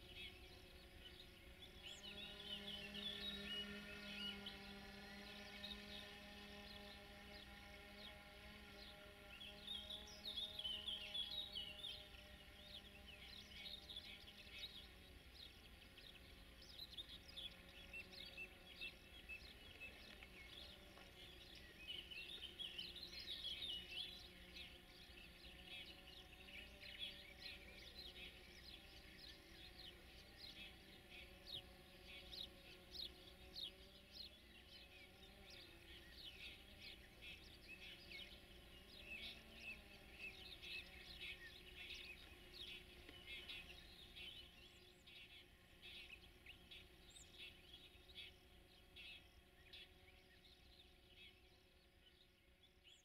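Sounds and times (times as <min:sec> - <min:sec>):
low steady background hum: 0:00.0 - 0:53.0
small birds chirping: 0:00.0 - 0:53.0.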